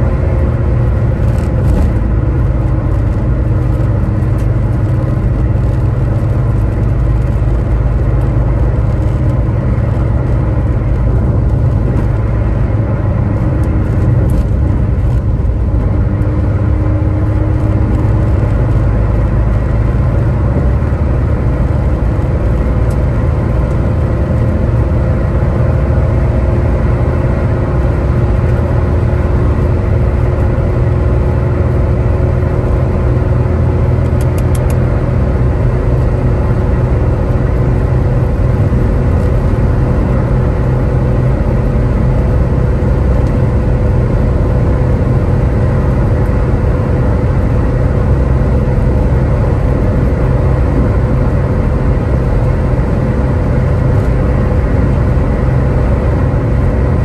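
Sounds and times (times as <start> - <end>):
car cabin low rumble: 0.0 - 57.0
faint engine drone: 0.0 - 57.0.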